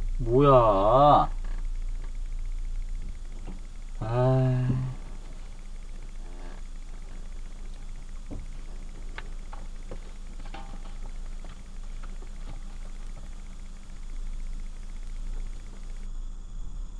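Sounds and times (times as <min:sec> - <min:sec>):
faint clicks and ticks: 0:00.0 - 0:16.1
low hum inside car cabin: 0:00.0 - 0:16.9.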